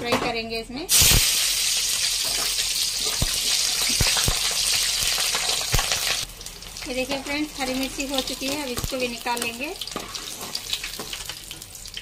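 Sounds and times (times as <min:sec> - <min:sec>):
chillies sizzling in hot oil: 0:00.9 - 0:12.0.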